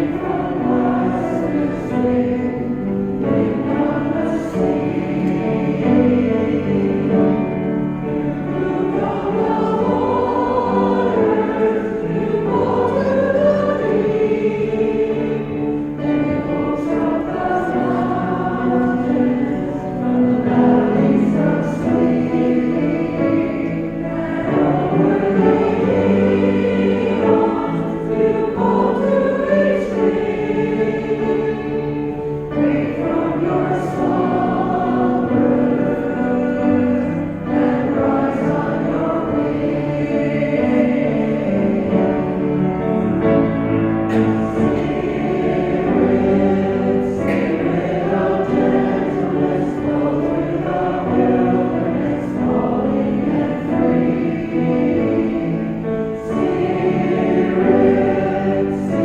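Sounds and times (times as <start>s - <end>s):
congregation singing a hymn: 0.0s - 59.0s
piano accompaniment: 0.0s - 59.0s.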